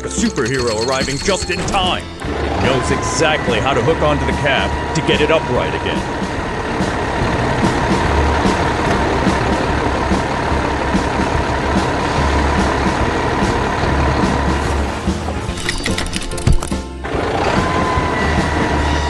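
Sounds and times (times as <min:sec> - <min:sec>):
heavy truck engine running: 0:00.0 - 0:19.0.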